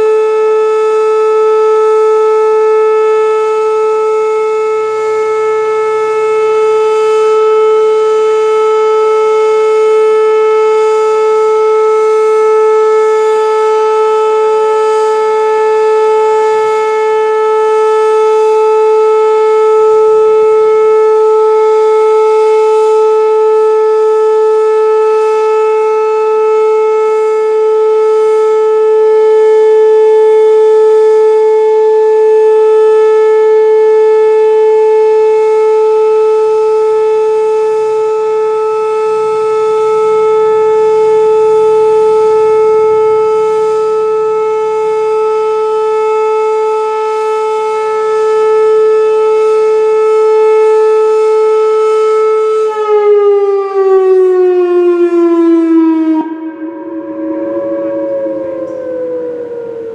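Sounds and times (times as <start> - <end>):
warning siren low tone: 0.0 - 59.9.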